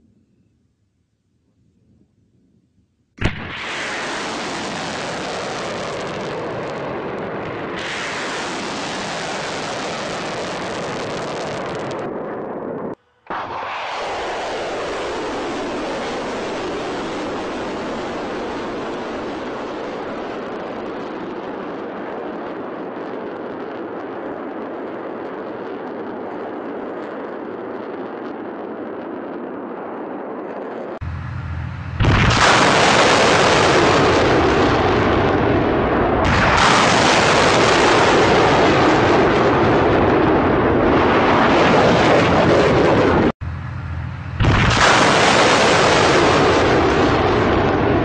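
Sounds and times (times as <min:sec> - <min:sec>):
rocket launch roar: 0:03.2 - 0:48.0.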